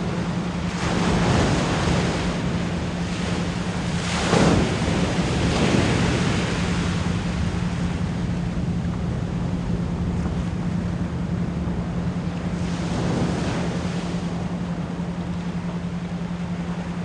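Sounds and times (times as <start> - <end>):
ocean waves washing: 0.0 - 17.0.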